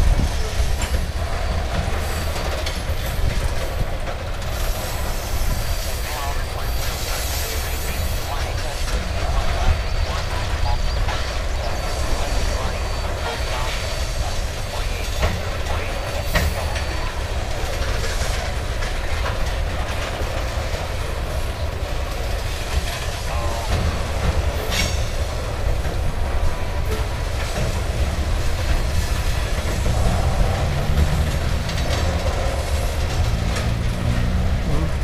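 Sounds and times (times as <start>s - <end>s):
sharp clicks of train wheels: 0.0s - 35.0s
train wheels rumbling on rails: 0.0s - 35.0s.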